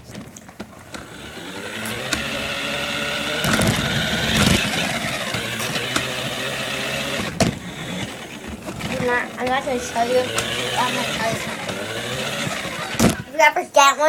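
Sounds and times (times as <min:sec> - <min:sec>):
rattling and knocks: 0:00.0 - 0:13.3
toy car motor whining: 0:00.8 - 0:13.3.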